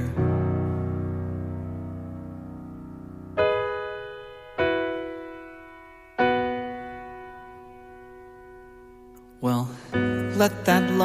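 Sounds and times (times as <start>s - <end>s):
piano chords ringing: 0.0s - 11.0s.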